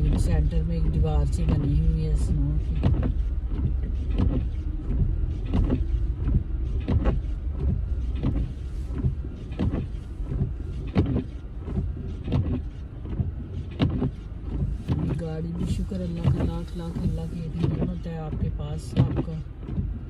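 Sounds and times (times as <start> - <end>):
low road rumble in car: 0.0 - 20.0.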